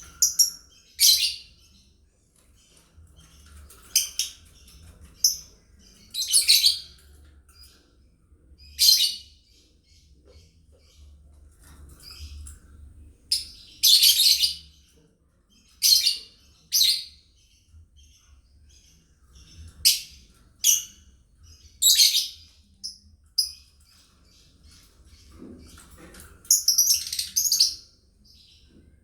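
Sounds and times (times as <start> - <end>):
birds twittering: 0.0 - 29.0.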